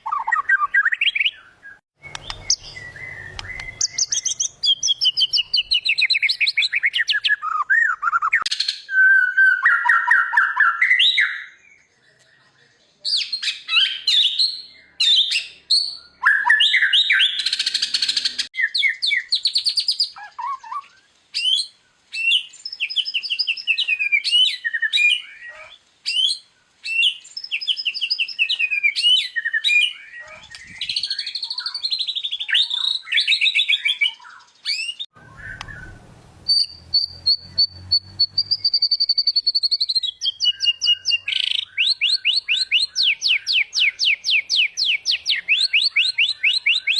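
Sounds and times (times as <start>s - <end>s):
songbird singing whistled phrases: 0.0s - 46.9s.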